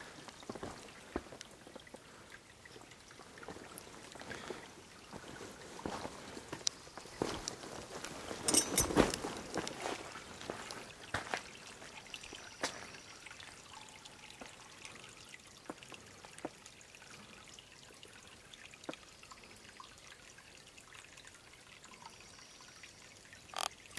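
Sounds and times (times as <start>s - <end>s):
water drips: 0.0s - 23.9s
waterfall trickling: 0.0s - 23.9s.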